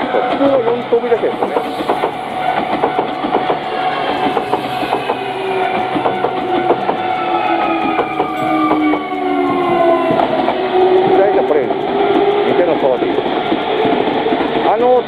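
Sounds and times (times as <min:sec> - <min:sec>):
train wheels clicking over rail joints: 0:00.0 - 0:15.0
train whine: 0:00.0 - 0:15.0.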